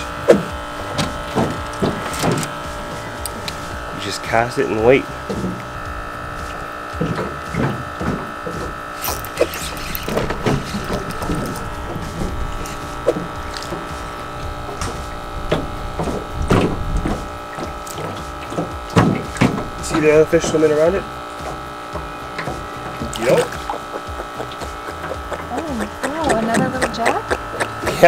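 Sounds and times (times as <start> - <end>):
fishing reel spinning: 0.0 - 28.0
steady hum: 0.0 - 28.0.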